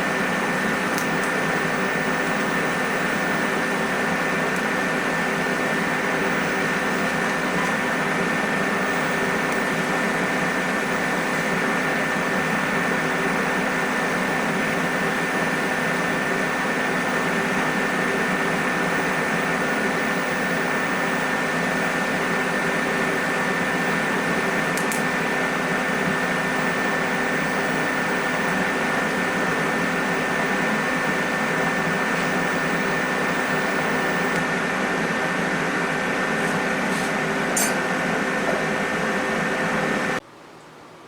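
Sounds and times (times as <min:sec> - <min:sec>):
machine hiss and hum: 0:00.0 - 0:40.2.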